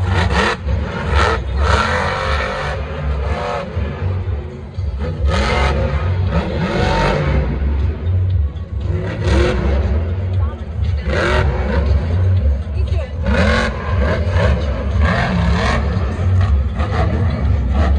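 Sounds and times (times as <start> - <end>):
background music: 0.0 - 17.9
truck engine revving hard: 0.0 - 17.9.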